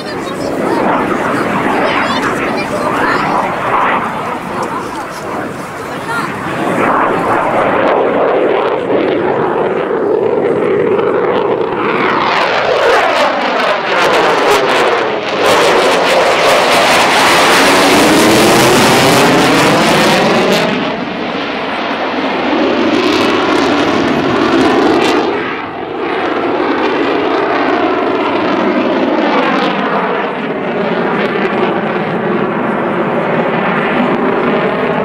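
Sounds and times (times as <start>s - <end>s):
jet engines flying past: 0.0s - 35.0s.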